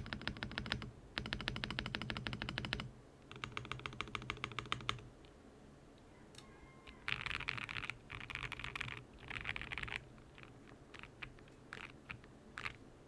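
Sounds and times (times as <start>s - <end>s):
mechanical keyboard typing: 0.0s - 5.1s, 7.0s - 12.8s.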